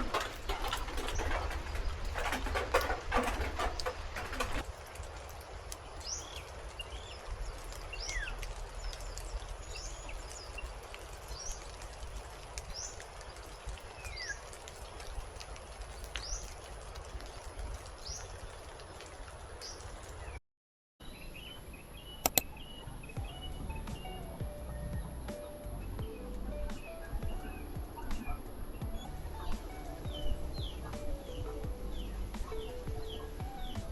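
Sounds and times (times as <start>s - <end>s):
rain hiss: 0.0s - 20.4s, 21.3s - 33.9s
small birds chirping: 0.0s - 20.4s, 21.0s - 33.9s.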